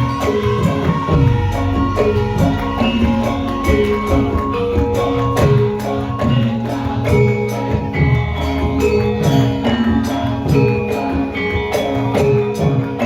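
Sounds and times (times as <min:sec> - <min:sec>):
drum strokes: 0:00.0 - 0:13.0
metallophone notes ringing: 0:00.0 - 0:13.0.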